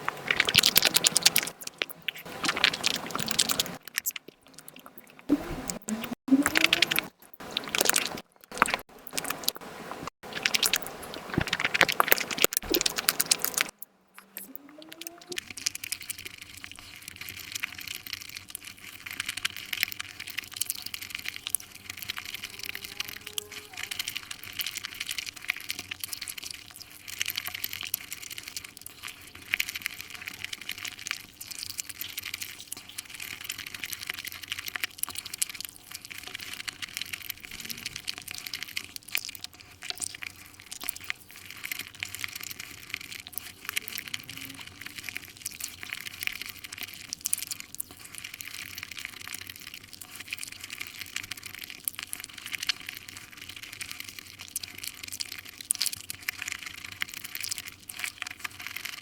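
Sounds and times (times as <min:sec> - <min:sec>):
sped-up wet chewing: 0:00.0 - 0:59.0.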